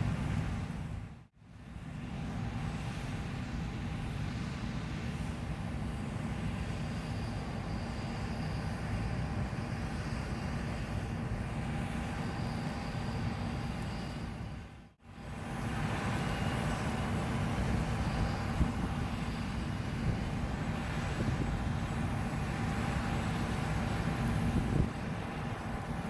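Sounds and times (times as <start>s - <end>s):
combine harvester drone: 0.0s - 26.0s
faint high whine: 1.4s - 26.0s.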